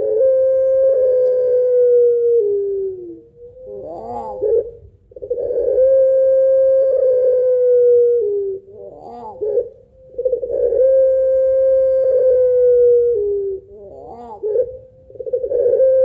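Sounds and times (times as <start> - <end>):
dove calling: 0.0 - 16.0.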